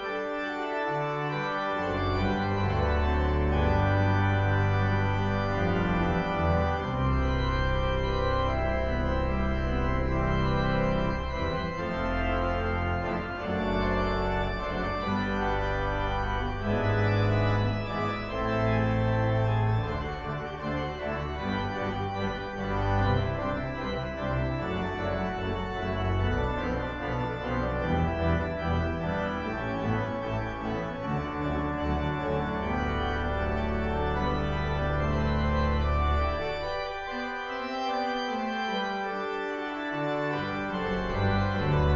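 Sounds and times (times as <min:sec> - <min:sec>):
organ playing chords: 0:00.0 - 0:41.9.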